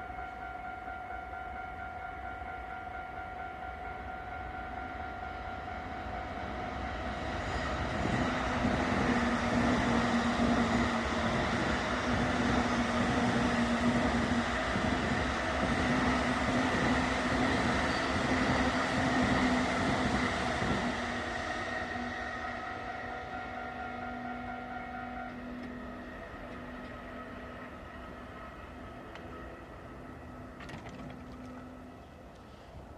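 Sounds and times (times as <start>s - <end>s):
level crossing warning alarm: 0.0s - 30.5s
train passing: 0.0s - 32.9s.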